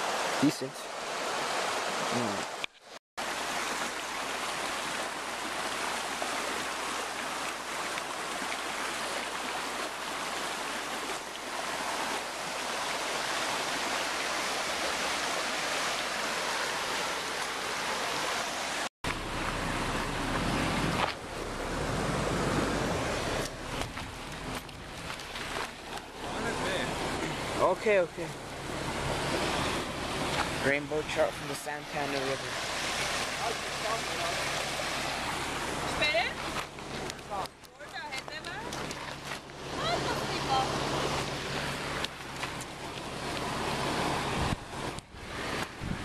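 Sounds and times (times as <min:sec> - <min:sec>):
stream running over rocks: 0:00.0 - 0:46.0.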